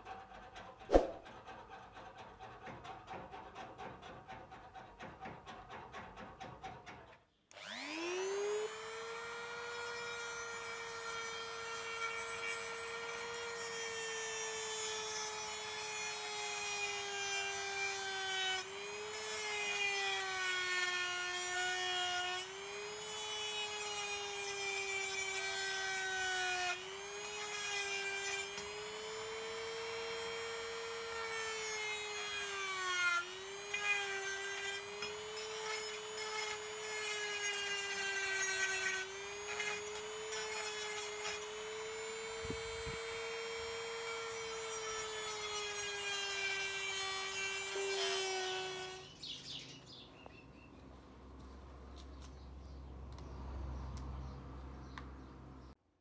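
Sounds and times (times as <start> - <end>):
rotary tool grinding metal: 0.0 - 49.7.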